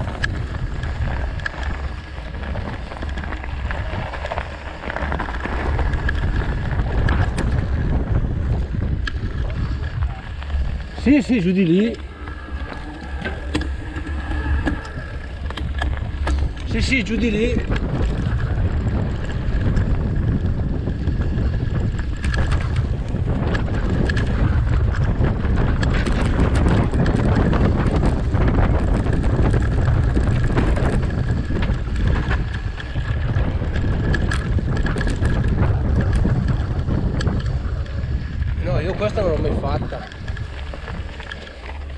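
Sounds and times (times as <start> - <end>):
bike rattling and clicking: 0.0 - 41.9
tyres rumbling over dirt and stones: 0.0 - 41.9
wind rushing over microphone: 0.0 - 41.9.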